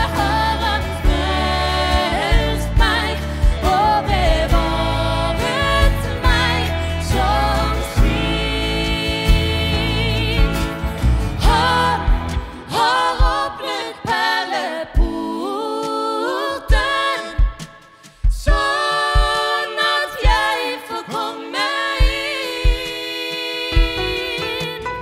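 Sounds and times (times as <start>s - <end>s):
women singing a hymn in harmony: 0.0s - 24.9s.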